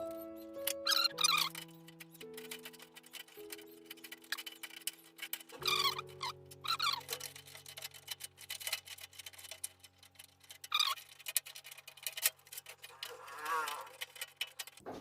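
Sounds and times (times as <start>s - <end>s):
metal screws clicking: 0.0s - 14.8s
squeaky chirps: 0.0s - 14.8s.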